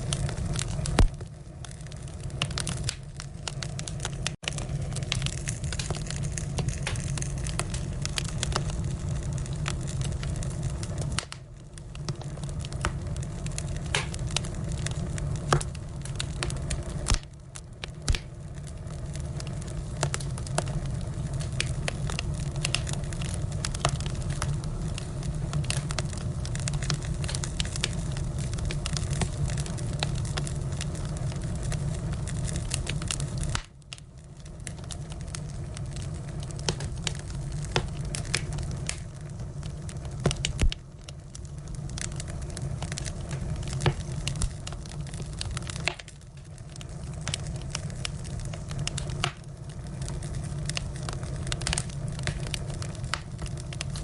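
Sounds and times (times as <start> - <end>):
firewood crackling and popping: 0.0 - 54.0.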